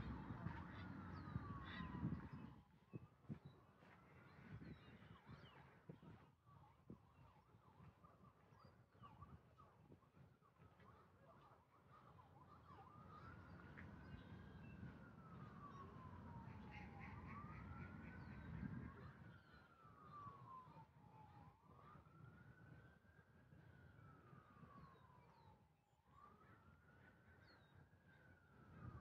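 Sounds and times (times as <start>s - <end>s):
faint siren wailing: 0.0s - 29.0s.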